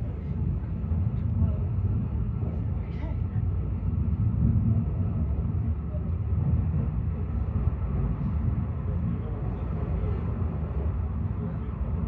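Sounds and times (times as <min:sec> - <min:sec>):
funicular car rumbling: 0:00.0 - 0:12.0.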